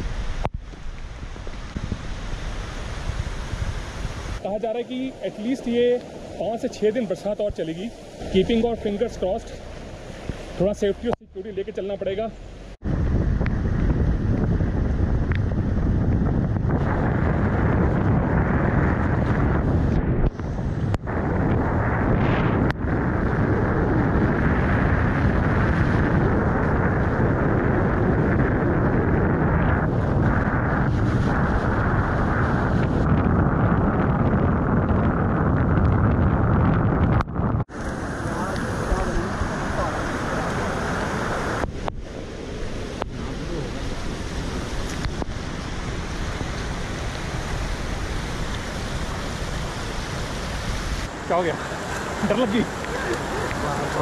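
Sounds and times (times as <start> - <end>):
road rumble: 0.0 - 54.0
wind rushing over microphone: 0.0 - 54.0.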